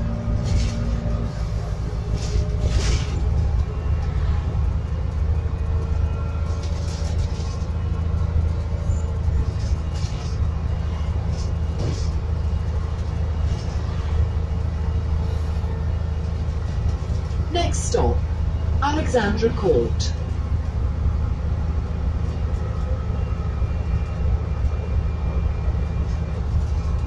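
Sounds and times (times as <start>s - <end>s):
bus body rattling: 0.0s - 27.0s
bus engine and road rumble: 0.0s - 27.0s.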